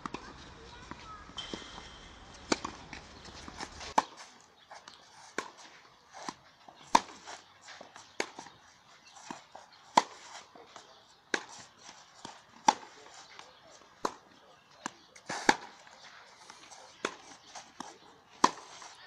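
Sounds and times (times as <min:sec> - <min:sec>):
tennis ball hit by rackets: 0:00.0 - 0:19.0.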